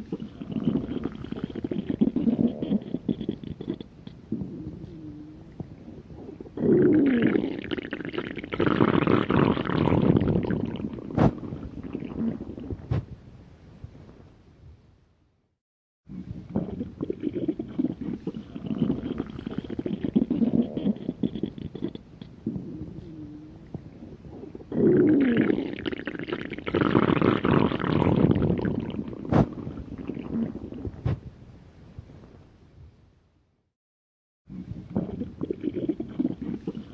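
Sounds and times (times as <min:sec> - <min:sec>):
stomach growling and gurgling: 0:00.0 - 0:13.2, 0:16.1 - 0:31.3, 0:34.5 - 0:36.9.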